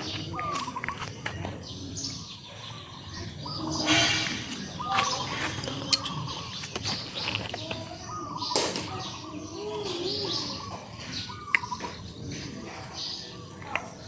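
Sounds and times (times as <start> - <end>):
animals crying: 0.0 - 14.0.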